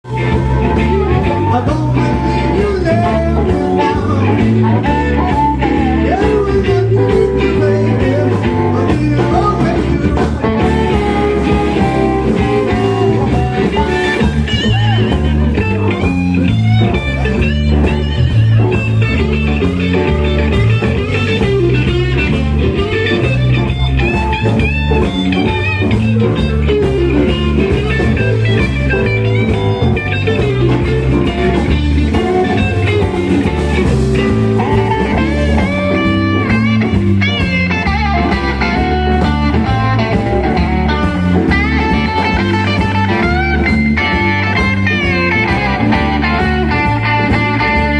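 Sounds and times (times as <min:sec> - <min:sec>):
blues-rock band playing: 0:00.0 - 0:47.9.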